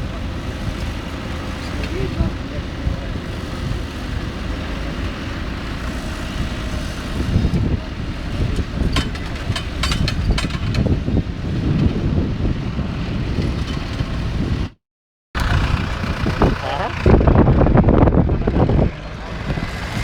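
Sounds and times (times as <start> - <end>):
outdoor rumble: 0.0 - 14.8, 15.4 - 20.0
tractor engine running: 0.0 - 14.8, 15.4 - 20.0.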